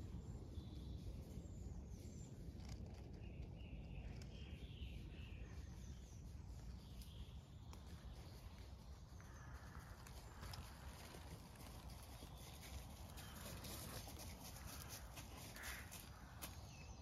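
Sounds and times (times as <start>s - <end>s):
bird chirps and warbles: 0.0s - 17.0s.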